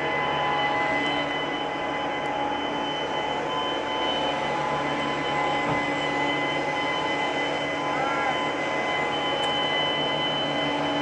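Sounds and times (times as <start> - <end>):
high steady whining tones: 0.0 - 11.0.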